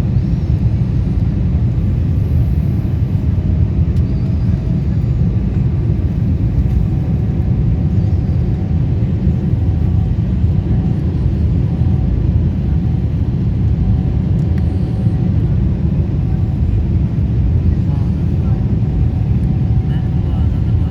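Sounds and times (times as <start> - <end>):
airliner low rumble: 0.0 - 20.9.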